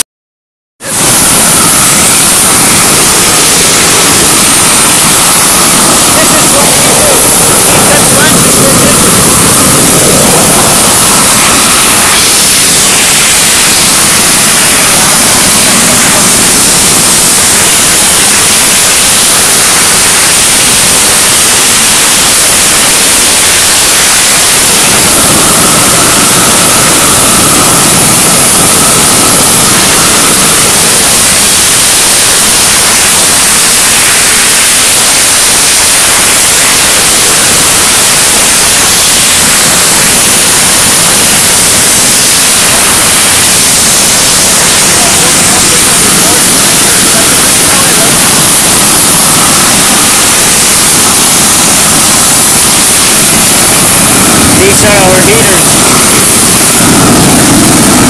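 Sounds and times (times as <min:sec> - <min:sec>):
gas torches hissing: 0:00.8 - 0:58.0.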